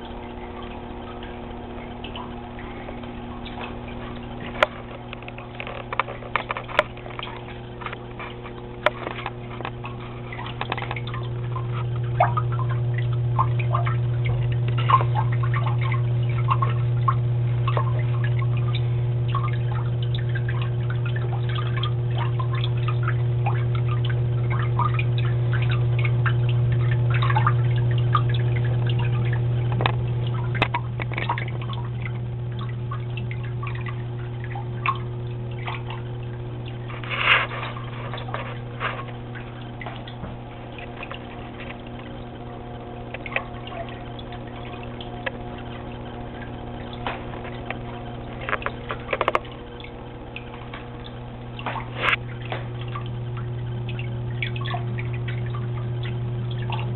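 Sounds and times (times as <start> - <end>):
low hum: 0.0 - 56.9
water trickling and dripping: 0.0 - 56.9.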